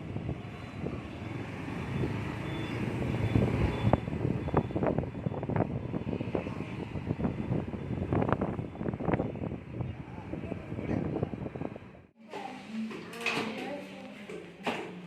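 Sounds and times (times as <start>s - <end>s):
low traffic rumble: 0.0s - 12.2s
vehicles passing: 0.0s - 12.2s.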